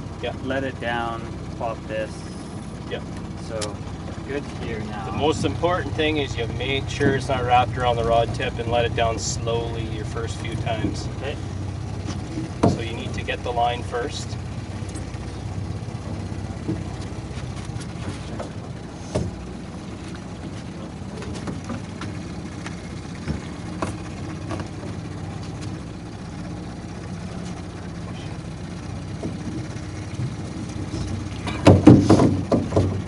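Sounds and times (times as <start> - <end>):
boat motor humming: 0.0 - 33.0.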